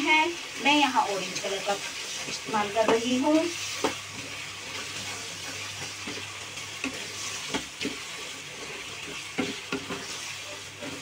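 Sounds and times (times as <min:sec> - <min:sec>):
sweet sizzling in a pan: 0:00.0 - 0:11.0.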